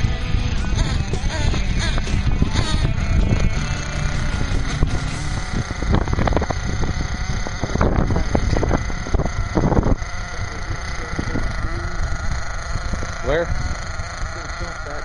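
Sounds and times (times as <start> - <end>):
small nitro engine revving: 0.0 - 15.0.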